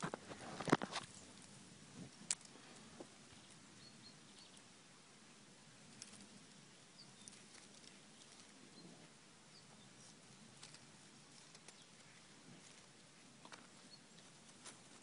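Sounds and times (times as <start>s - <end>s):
faint ticks and rustles: 0.0s - 15.0s.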